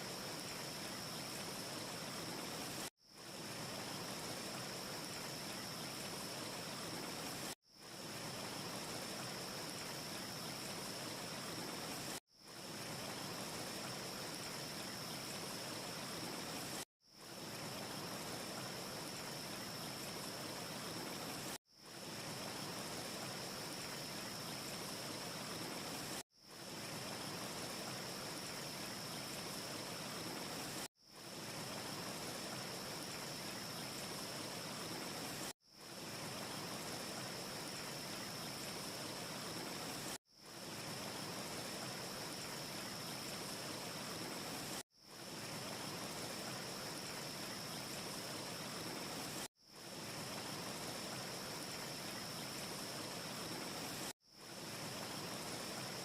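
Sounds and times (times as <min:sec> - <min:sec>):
faint high hiss: 0:00.0 - 0:56.0.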